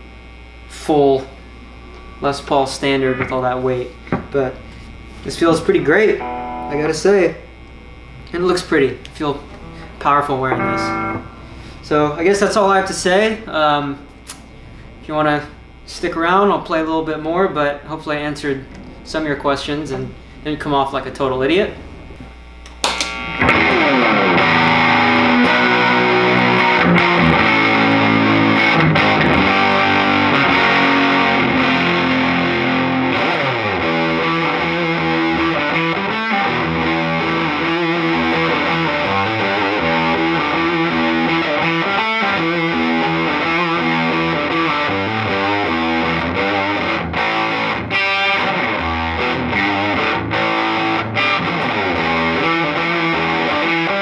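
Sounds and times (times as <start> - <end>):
distorted electric guitar riffs: 0.0 - 54.0.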